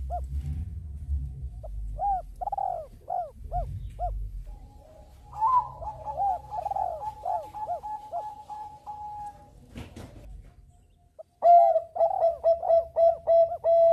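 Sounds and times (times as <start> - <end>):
dove cooing: 0.0 - 0.4, 1.6 - 9.7, 11.2 - 13.9
low background rumble: 0.0 - 13.9.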